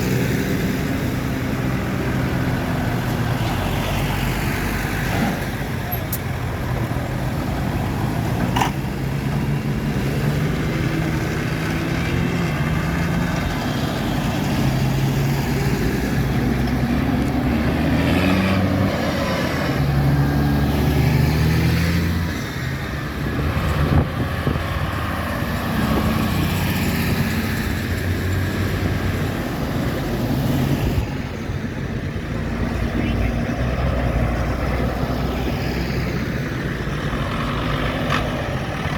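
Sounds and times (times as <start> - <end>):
diesel tractors driving past: 0.0 - 38.9.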